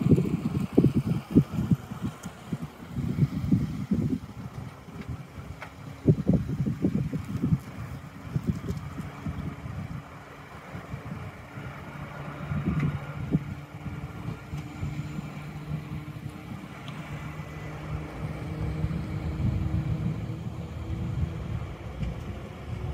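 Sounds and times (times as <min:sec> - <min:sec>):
engine hum and rumble: 0:00.0 - 0:22.9
wind buffeting microphone: 0:00.0 - 0:22.9.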